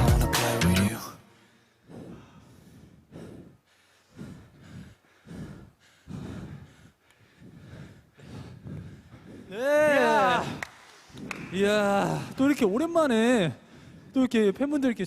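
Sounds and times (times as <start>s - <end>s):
people panting heavily: 1.4s - 14.8s.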